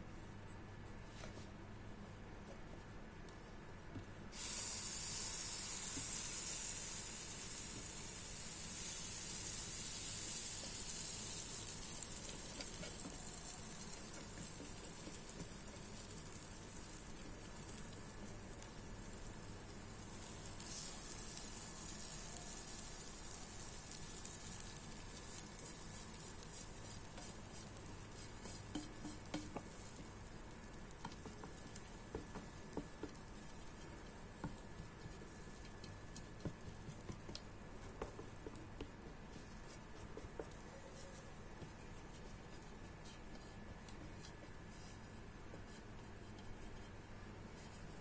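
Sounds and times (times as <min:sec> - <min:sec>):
waffle batter sizzling: 0:04.3 - 0:48.0
small crackles: 0:05.2 - 0:48.0.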